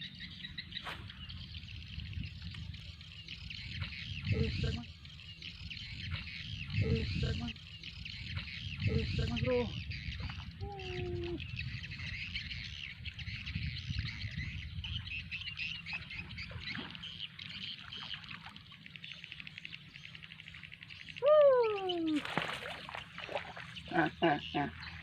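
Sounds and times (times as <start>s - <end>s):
birds and insects chirping: 0.0s - 25.0s.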